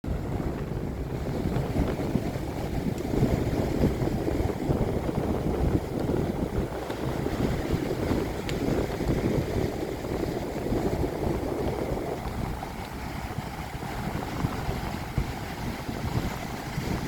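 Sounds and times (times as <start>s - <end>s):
storm wind buffeting microphone: 0.0s - 17.0s
sea surf: 0.1s - 17.0s.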